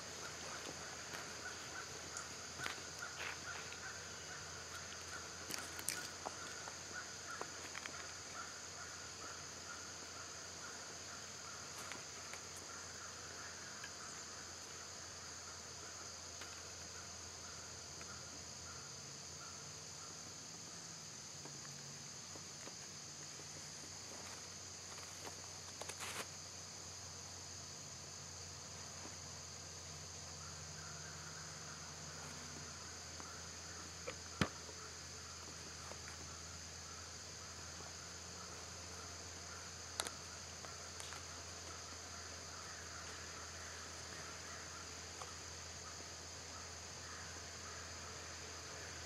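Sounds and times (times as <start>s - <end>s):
insects chorus: 0.0s - 49.0s.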